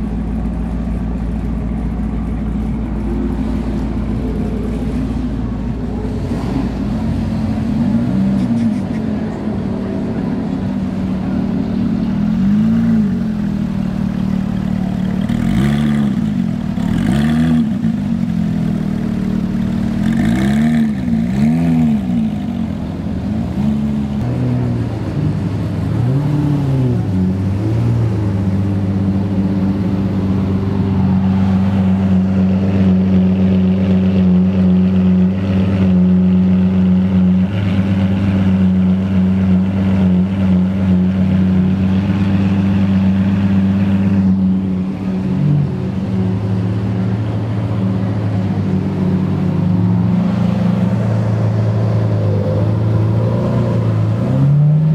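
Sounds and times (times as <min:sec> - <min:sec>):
car engine revving and idling: 0:00.0 - 0:54.9.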